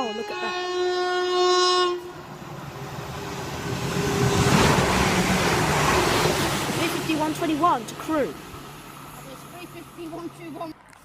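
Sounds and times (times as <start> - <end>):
electric train passing at speed: 0.0 - 10.8.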